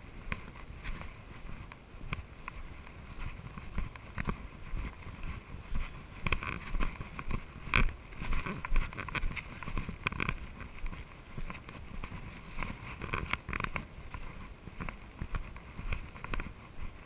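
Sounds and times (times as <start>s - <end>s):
wind noise: 0.0s - 17.0s
bike rattling over bumps: 2.8s - 16.6s.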